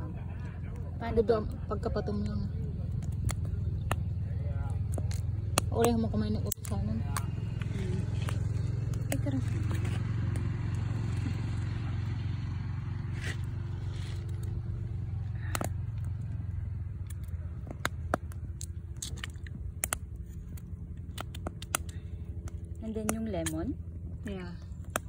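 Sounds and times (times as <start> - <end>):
low rumble: 0.0 - 25.0
campfire crackling and popping: 0.4 - 25.0.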